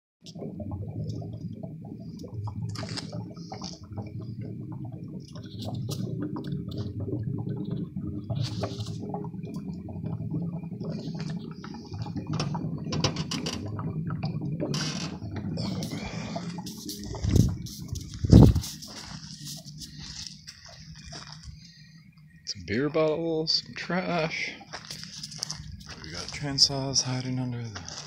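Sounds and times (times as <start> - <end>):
oil bubbling and crackling: 0.2 - 28.0.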